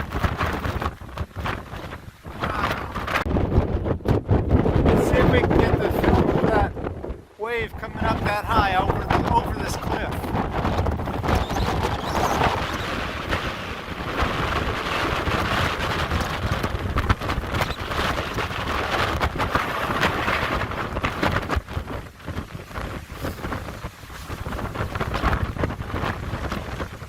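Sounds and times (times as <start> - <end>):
heavy surf breaking: 0.0 - 27.0
storm wind buffeting microphone: 0.0 - 27.0.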